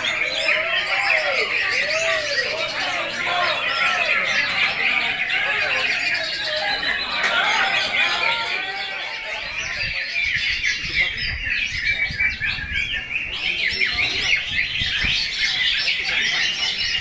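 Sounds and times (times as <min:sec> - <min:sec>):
chorus of caged birds singing: 0:00.0 - 0:17.0.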